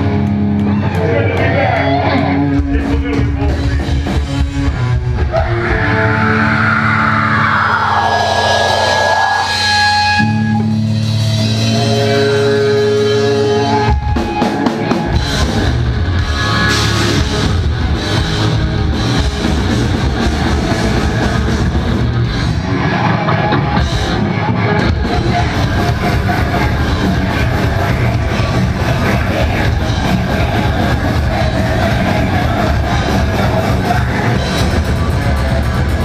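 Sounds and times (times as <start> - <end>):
heavy metal band playing: 0.0 - 36.0
held guitar and bass notes: 0.0 - 36.0.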